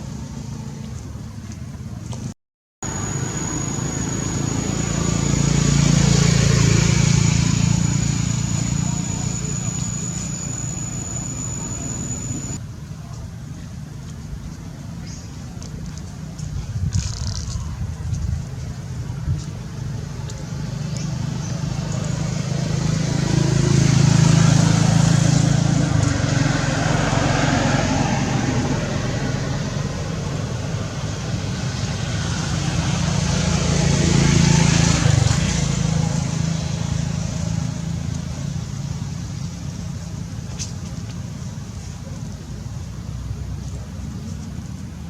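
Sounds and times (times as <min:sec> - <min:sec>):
vehicle engine and tyre noise: 0:00.0 - 0:12.8, 0:13.8 - 0:45.0.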